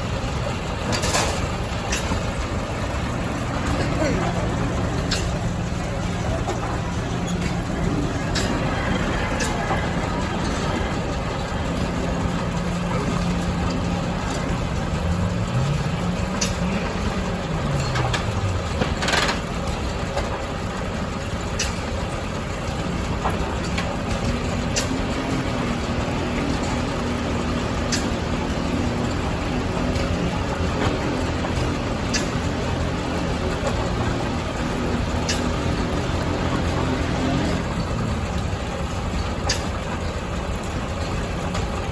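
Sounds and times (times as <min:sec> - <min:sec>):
sawmill machinery hum: 0:00.0 - 0:41.9.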